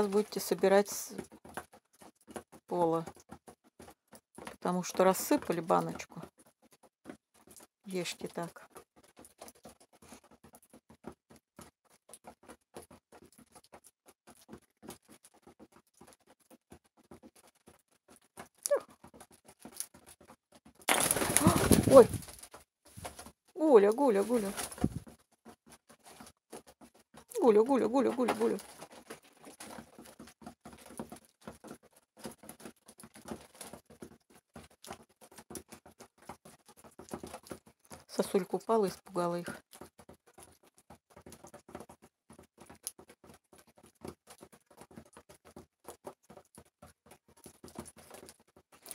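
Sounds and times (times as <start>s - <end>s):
pigeons pecking on wooden board: 0.0s - 48.9s.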